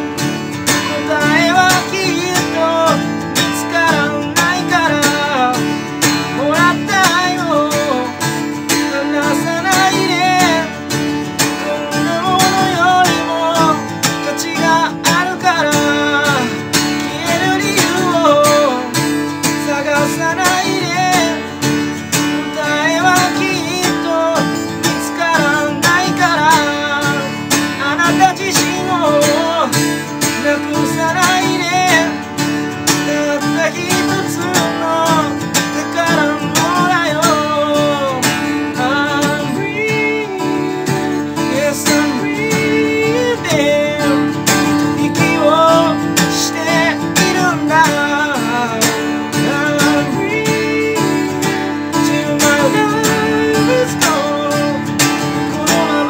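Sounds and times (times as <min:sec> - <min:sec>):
acoustic guitar: 0:00.0 - 0:56.0
man singing a ballad: 0:00.0 - 0:56.0.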